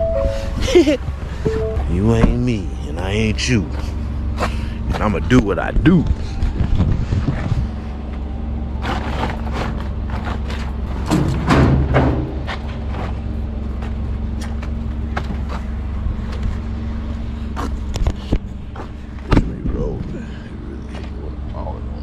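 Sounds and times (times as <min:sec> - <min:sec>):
low vehicle hum: 0:00.0 - 0:22.0.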